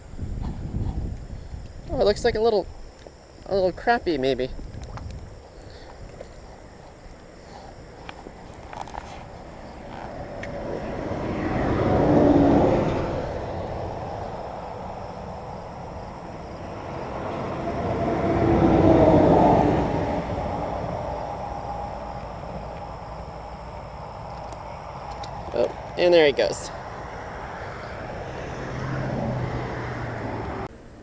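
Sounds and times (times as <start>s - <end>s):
vehicles passing on highway: 5.4s - 31.0s.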